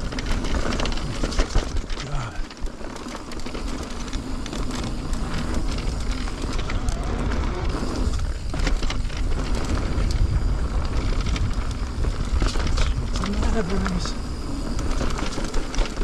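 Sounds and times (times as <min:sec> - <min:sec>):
bike rattling and clicking: 0:00.0 - 0:16.0
tyres crunching over stones: 0:00.0 - 0:16.0
wind rumble on microphone: 0:00.0 - 0:16.0.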